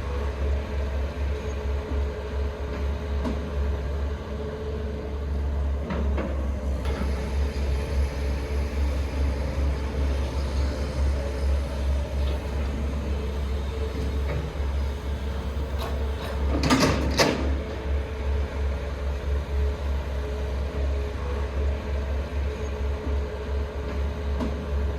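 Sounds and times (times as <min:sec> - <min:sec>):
heavy diesel machinery rumbling: 0:00.0 - 0:24.9.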